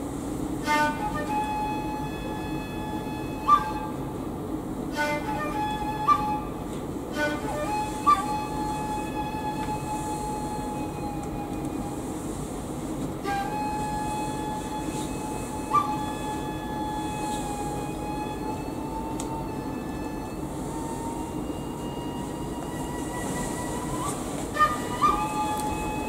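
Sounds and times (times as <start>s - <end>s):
wind instrument holding long notes: 0.0s - 26.0s.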